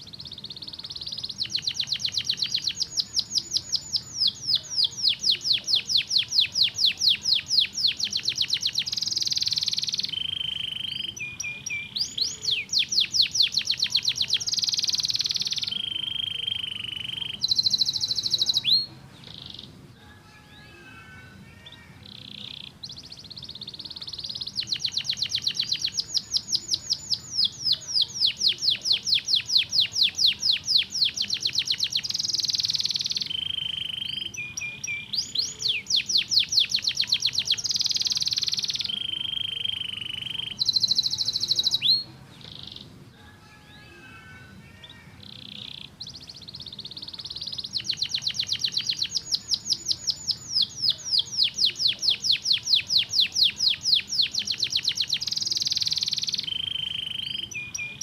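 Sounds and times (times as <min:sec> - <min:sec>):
canary trilling: 0:00.0 - 0:58.0.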